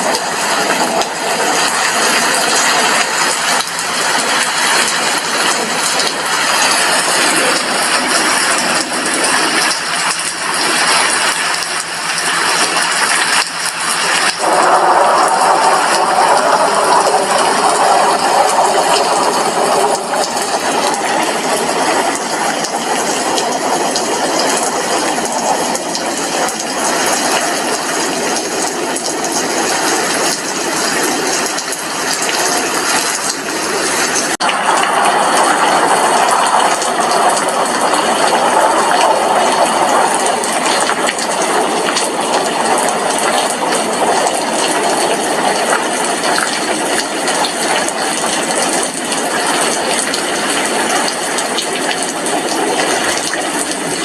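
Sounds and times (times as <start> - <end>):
heavy rain on a window pane: 0.0 - 54.0.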